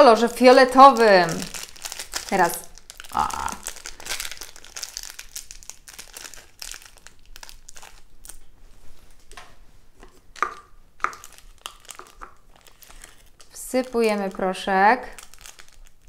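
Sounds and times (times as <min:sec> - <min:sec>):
plastic sachet crinkling: 0:00.0 - 0:09.4, 0:10.3 - 0:16.0.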